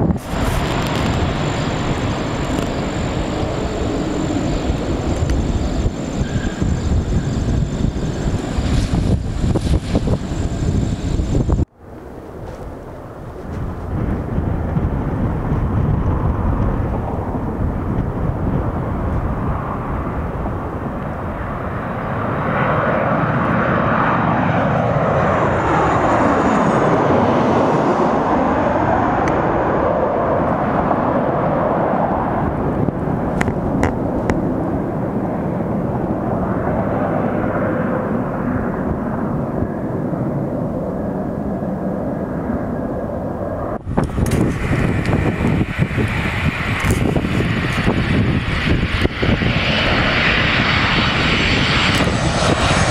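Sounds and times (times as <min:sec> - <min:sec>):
jet flying low overhead: 0:00.0 - 0:52.9.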